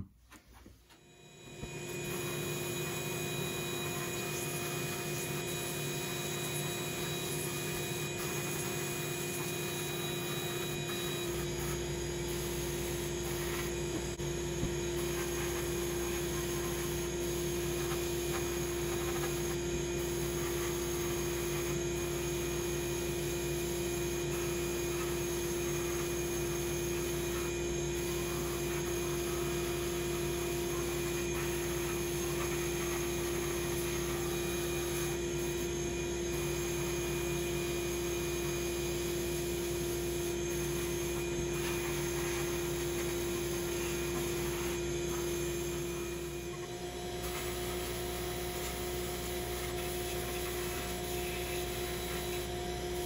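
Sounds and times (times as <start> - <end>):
steady hum: 0.0 - 53.0.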